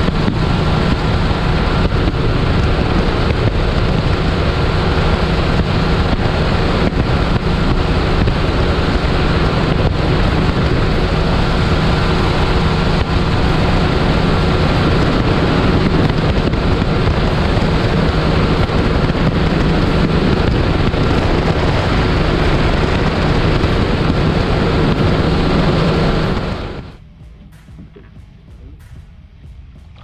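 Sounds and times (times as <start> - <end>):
outboard motor running: 0.0 - 27.0
wind noise on microphone: 0.0 - 30.0.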